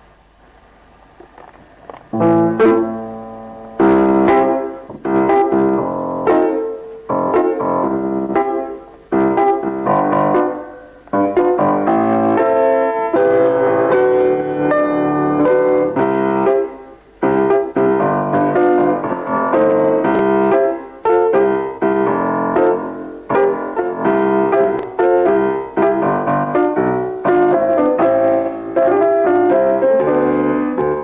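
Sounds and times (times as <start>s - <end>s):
piano melodic phrases: 2.1s - 31.0s.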